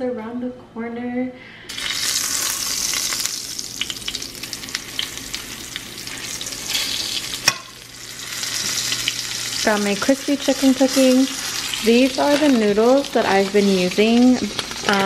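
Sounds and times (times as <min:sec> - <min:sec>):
chicken sizzling in hot oil: 0:01.7 - 0:15.0.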